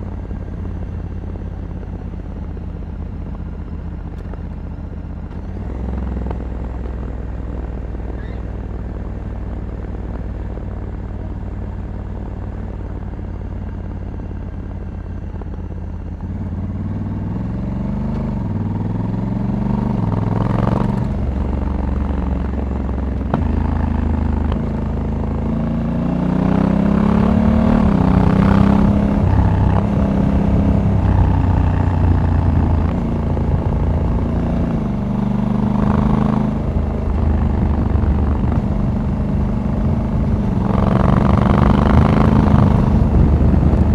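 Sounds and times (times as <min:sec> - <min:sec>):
motorcycle engine running and shifting: 0:00.0 - 0:43.9.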